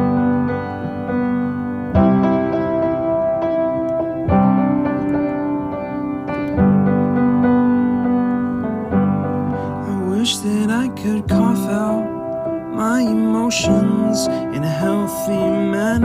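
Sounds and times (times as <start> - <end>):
sustained keyboard chords: 0.0 - 16.0.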